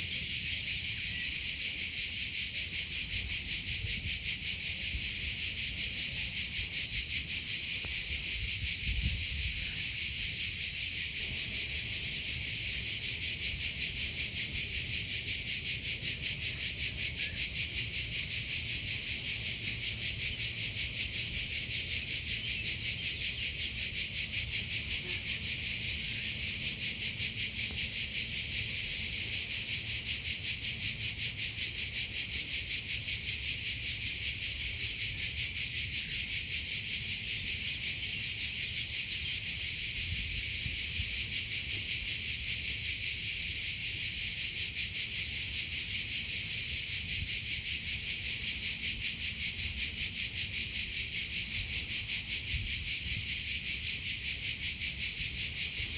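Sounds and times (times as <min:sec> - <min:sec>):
cricket chirping: 0:00.0 - 0:55.9.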